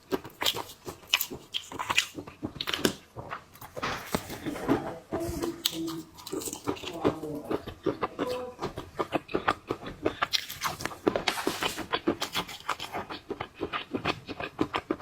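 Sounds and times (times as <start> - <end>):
shells cracking and chewing: 0.0 - 15.0.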